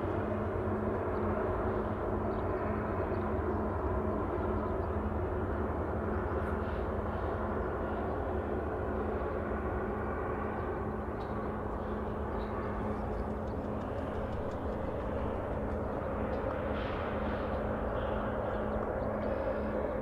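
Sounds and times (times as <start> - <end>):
faint pulsing hum: 0.0 - 20.0
low outdoor rumble: 0.0 - 20.0.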